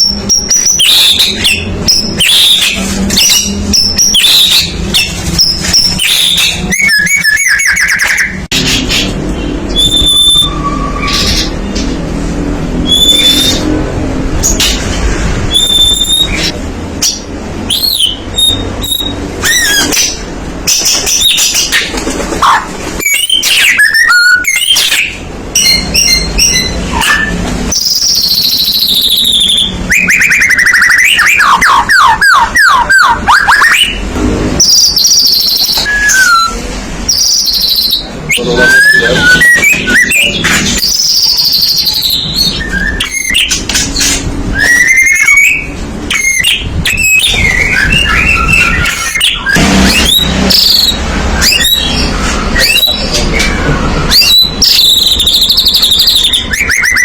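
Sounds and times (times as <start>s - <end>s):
songbird singing whistled phrases: 0.0s - 8.5s, 9.4s - 11.6s, 12.8s - 13.7s, 15.5s - 16.6s, 17.7s - 20.2s, 23.0s - 34.0s, 34.6s - 43.6s, 44.5s - 57.0s.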